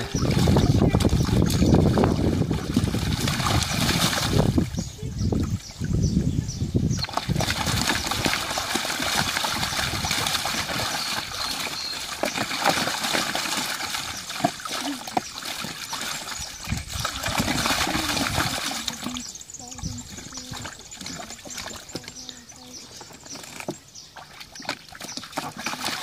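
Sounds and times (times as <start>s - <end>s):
dog splashing in water: 0.0s - 5.7s, 7.0s - 26.0s.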